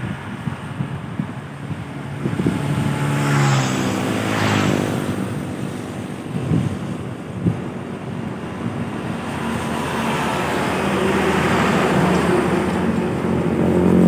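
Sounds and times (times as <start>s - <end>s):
heavy vehicle passing: 0.0s - 14.0s.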